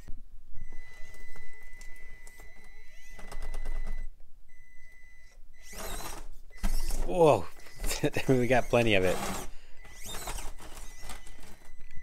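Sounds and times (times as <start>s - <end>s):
electric motor and gears whining: 0.8s - 4.0s, 5.6s - 12.0s.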